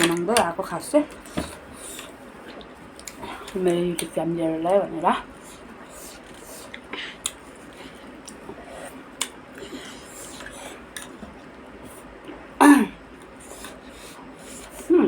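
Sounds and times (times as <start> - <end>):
faint eating noises: 0.0 - 15.0.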